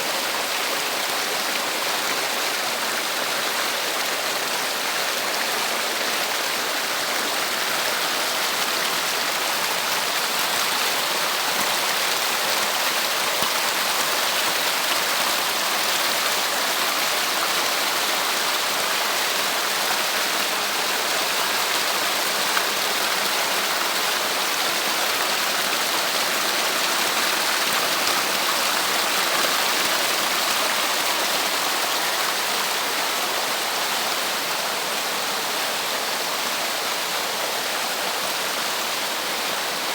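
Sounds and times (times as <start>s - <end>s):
water cascading over rocks: 0.0s - 39.9s.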